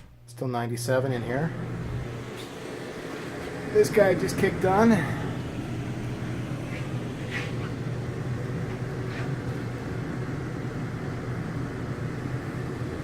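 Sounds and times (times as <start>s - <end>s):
air conditioner humming: 0.0s - 13.0s
blower rushing: 1.0s - 13.0s.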